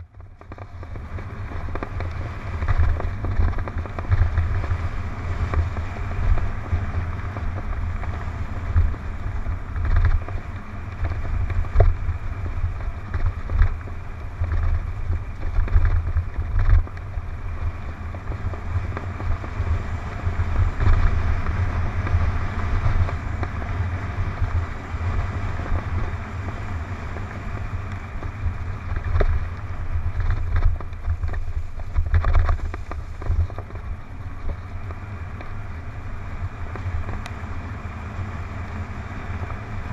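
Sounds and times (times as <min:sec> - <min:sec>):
bike rattling over dirt trail: 0:00.0 - 0:39.9
wind buffeting microphone: 0:00.0 - 0:39.9.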